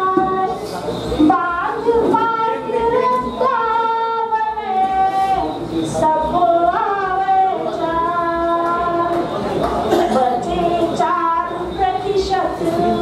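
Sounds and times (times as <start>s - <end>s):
woman singing melodic chant: 0.0s - 0.6s, 1.2s - 13.0s.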